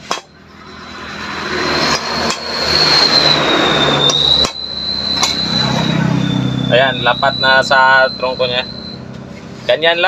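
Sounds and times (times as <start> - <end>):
loud noise with high whine: 0.0 - 10.0.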